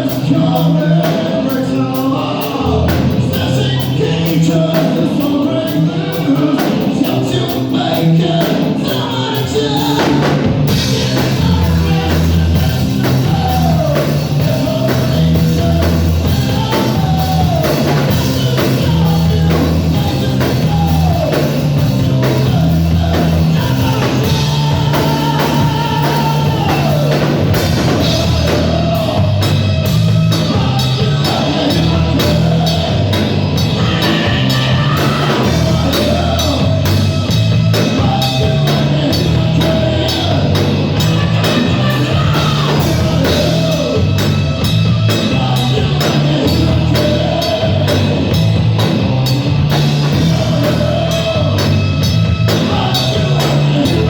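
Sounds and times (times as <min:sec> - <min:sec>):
heavy rock music: 0:00.0 - 0:54.0.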